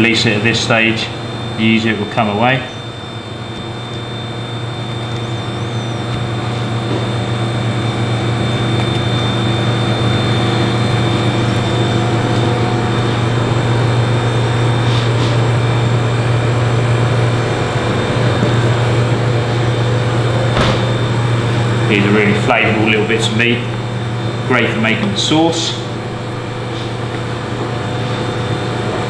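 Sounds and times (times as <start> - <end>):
kitchen ventilation hum: 0.0 - 29.0.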